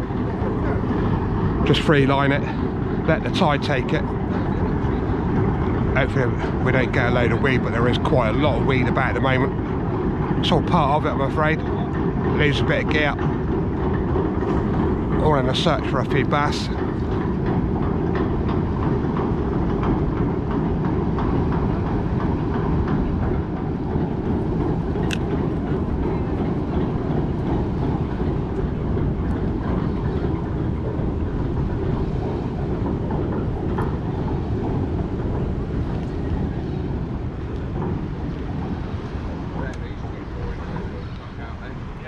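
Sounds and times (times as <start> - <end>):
ferry engines and chains rumbling: 0.0 - 42.0.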